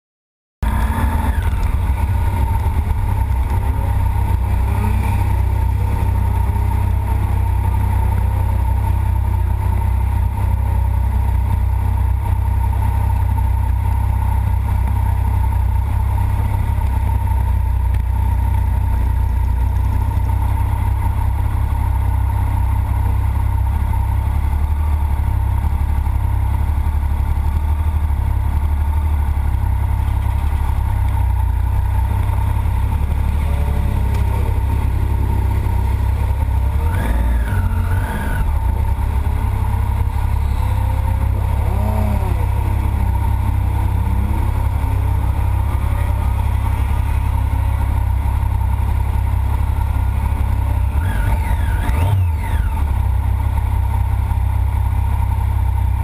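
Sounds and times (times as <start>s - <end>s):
motorcycles idling: 0.6s - 56.0s
motorcycles revving: 0.6s - 56.0s.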